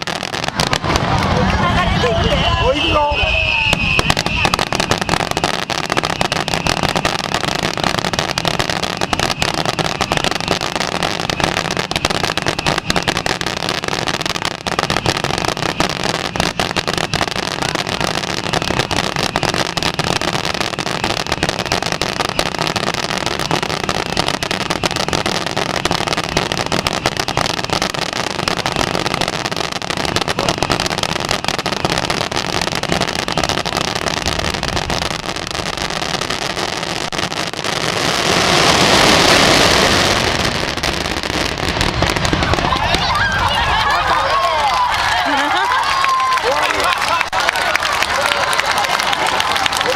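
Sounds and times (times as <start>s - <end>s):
fireworks barrage: 0.0s - 49.9s
fireworks crackling and popping: 0.0s - 49.9s.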